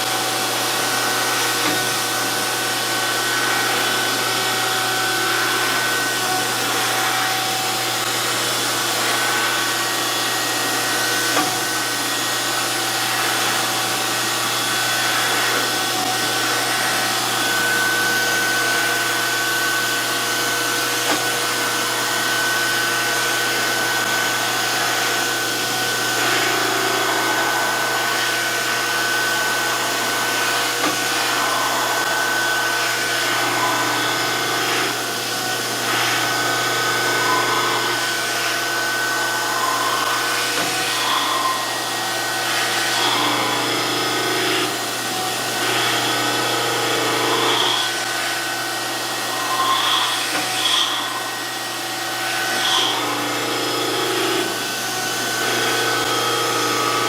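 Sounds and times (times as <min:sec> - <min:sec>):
surface grinder whirring: 0:00.0 - 0:57.0.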